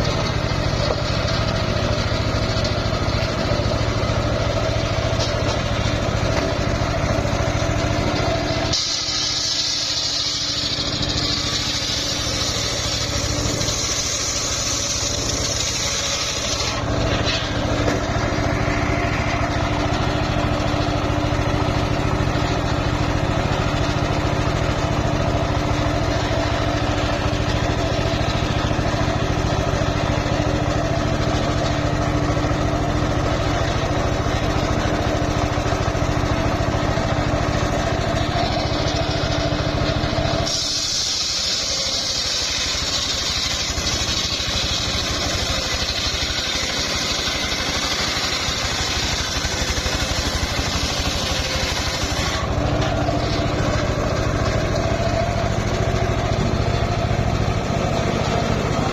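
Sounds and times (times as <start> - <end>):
saw blade cutting wood: 0.0 - 58.9
sawmill engine running: 0.0 - 58.9.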